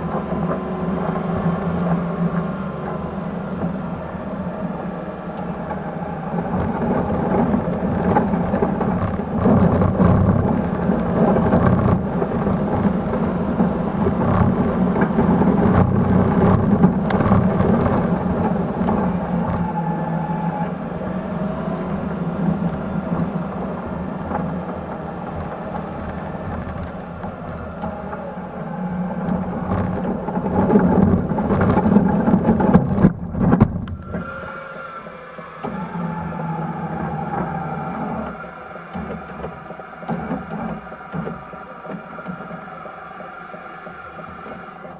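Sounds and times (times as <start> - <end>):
truck engine under load: 0.0 - 44.9.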